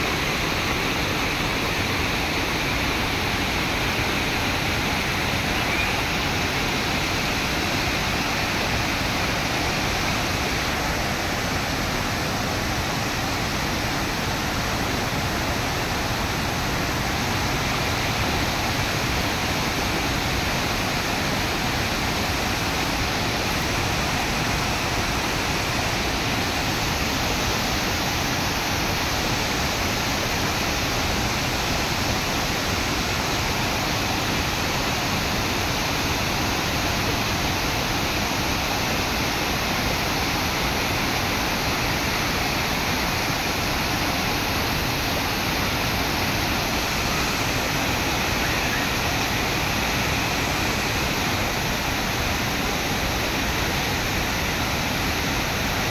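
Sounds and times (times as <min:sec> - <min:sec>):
waterfall rushing over rocks: 0:00.0 - 0:55.9.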